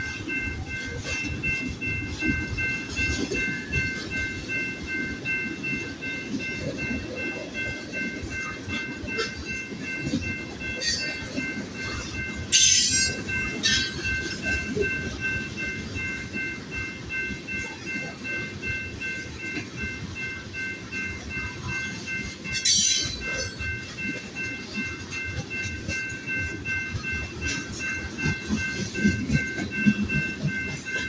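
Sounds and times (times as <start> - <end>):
crossing signal bell ringing: 0.0 - 31.0
train wheels rumbling on rails: 0.0 - 31.0.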